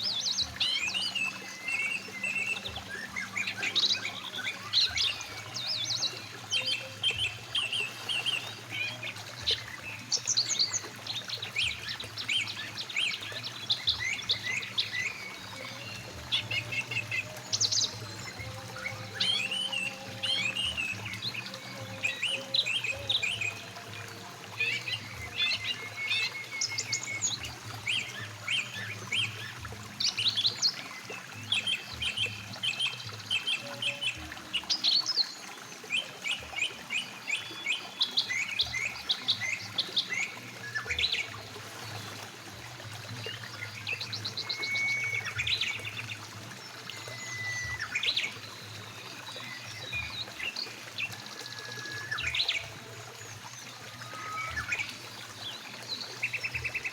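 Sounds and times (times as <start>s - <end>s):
birds chirping and trilling: 0.0s - 56.9s
river rushing: 0.0s - 56.9s.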